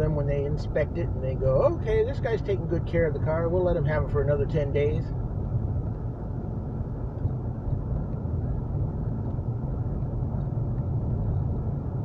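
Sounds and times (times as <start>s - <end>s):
car engine hum: 0.0s - 12.0s
road and tyre noise: 0.0s - 12.0s.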